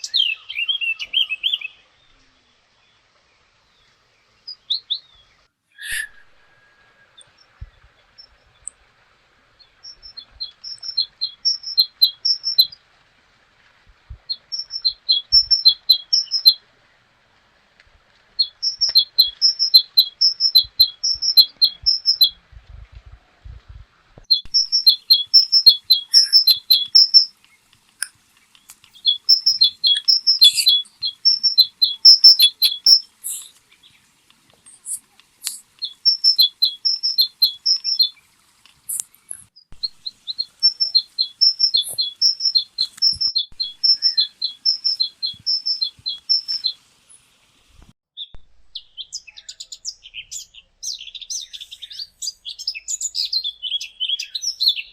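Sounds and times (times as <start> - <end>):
songbird singing: 0.0 - 12.9, 14.0 - 17.2, 18.2 - 54.9.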